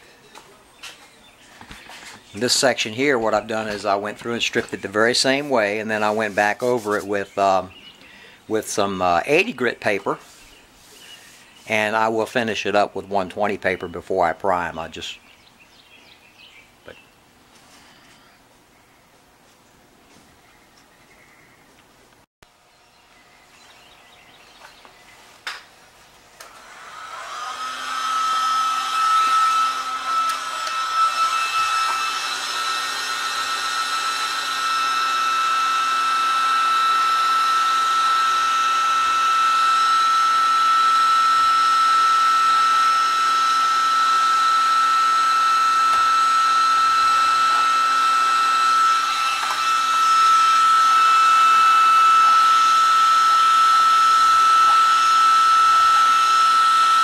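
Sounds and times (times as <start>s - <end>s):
heat gun fan whining: 0.3s - 18.6s, 22.5s - 57.0s.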